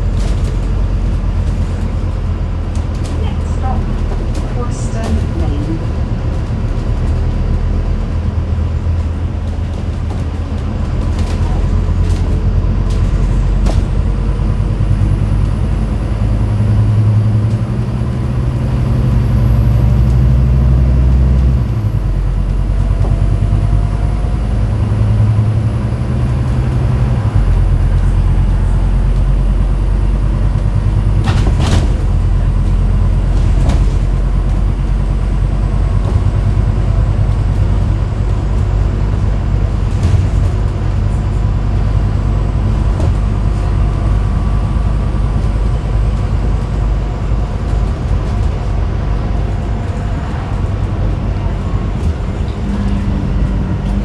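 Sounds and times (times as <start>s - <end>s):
bodywork knocks and rattles: 0.0s - 21.4s, 22.2s - 54.0s
bus diesel engine drone: 0.0s - 54.0s.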